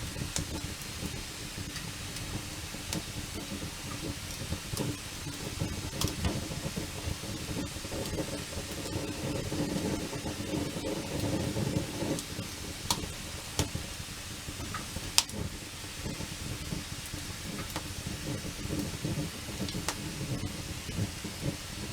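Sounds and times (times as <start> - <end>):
burning wood popping: 0.0 - 21.9
campfire flames rumbling: 0.0 - 21.9.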